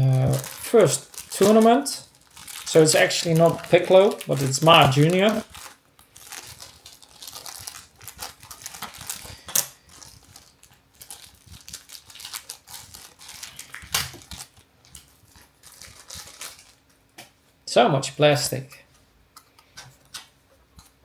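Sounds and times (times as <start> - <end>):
plastic film crinkling: 0.0 - 17.1.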